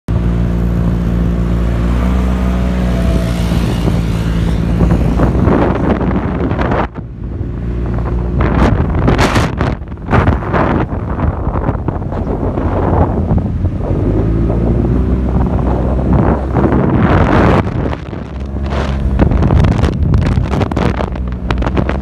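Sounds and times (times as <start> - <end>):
motorcycle engine running: 0.1 - 22.0
wind buffeting microphone: 0.1 - 22.0.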